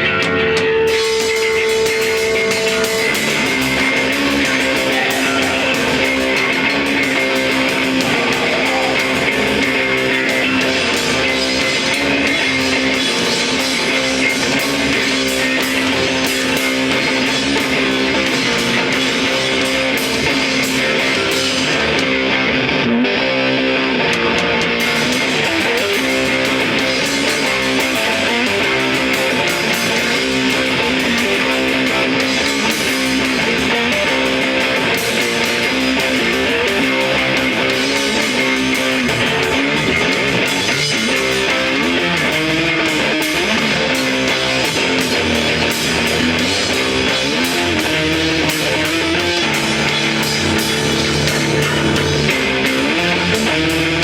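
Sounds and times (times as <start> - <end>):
guitar-driven band music: 0.0 - 54.0.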